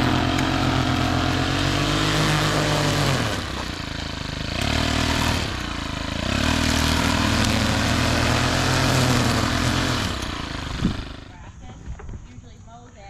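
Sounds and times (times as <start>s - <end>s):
gasoline engine running: 0.0s - 11.6s.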